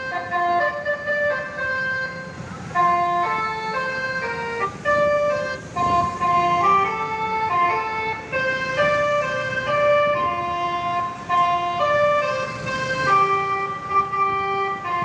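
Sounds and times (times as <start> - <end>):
multi-tone air horn playing a tune: 2.7 - 15.0.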